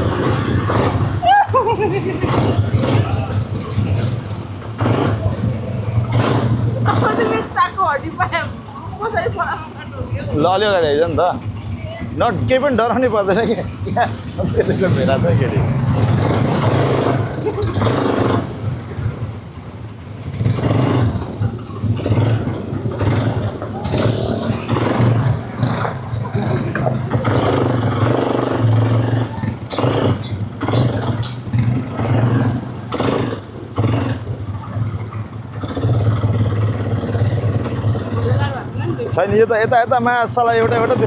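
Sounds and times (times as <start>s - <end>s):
quad bike engines running: 0.0s - 41.0s.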